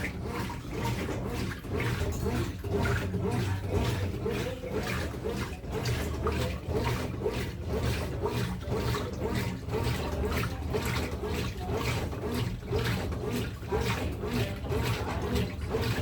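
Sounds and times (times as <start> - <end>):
washing machine motor hum: 0.0 - 16.0
water sloshing in washing machine: 0.0 - 16.0.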